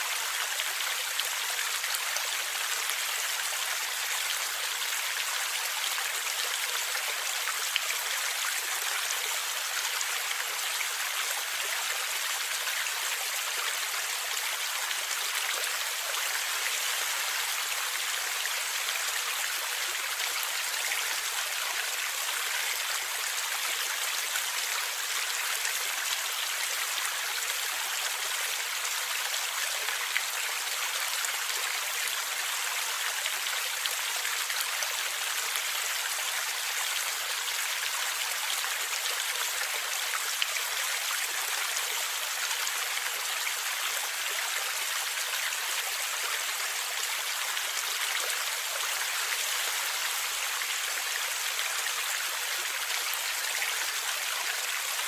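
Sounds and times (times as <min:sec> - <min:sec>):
stream of water gurgling: 0:00.0 - 0:55.0.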